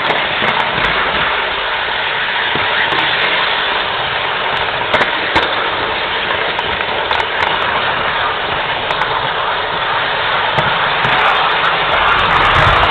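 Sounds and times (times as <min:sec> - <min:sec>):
model train whirring: 0:00.0 - 0:12.9
wheels clicking over track joints: 0:00.0 - 0:12.9.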